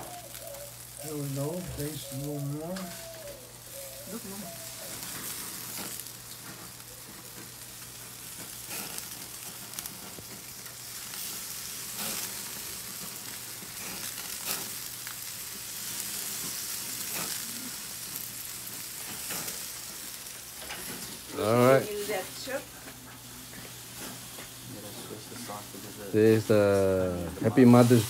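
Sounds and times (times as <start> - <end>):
fat crackling in flames: 0.0 - 28.0
food sizzling on a grill: 0.0 - 28.0.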